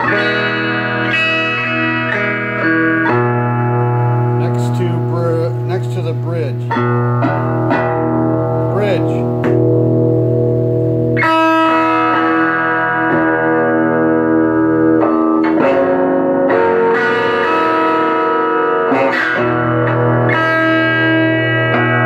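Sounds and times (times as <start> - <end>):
electric guitar chords ringing: 0.0 - 22.0.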